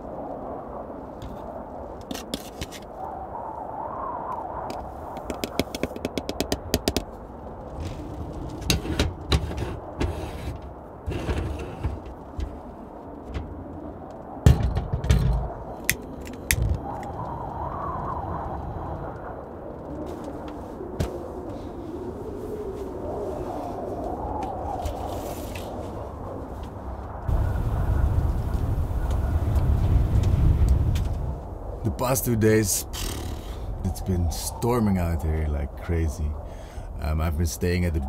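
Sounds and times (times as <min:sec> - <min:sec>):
storm wind rumble: 0:00.0 - 0:38.0.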